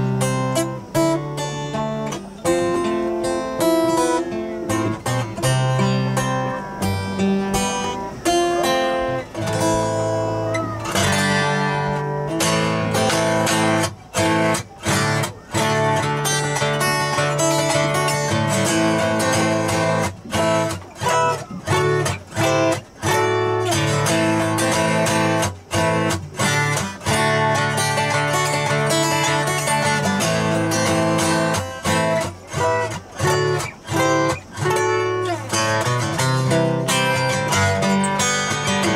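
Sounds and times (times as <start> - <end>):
acoustic guitars strummed: 0.0 - 38.9.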